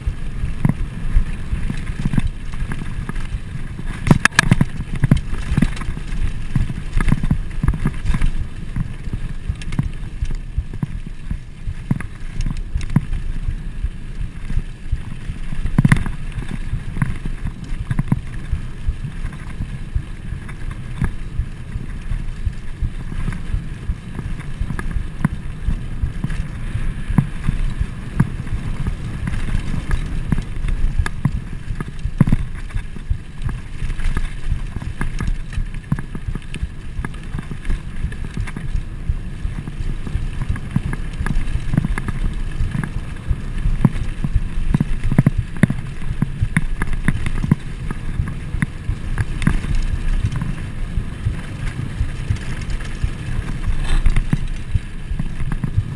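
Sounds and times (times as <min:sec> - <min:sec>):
bike clicks and rattles: 0:00.0 - 0:55.9
bike tyres rumbling on dirt: 0:00.0 - 0:55.9
wind buffeting microphone: 0:00.0 - 0:55.9.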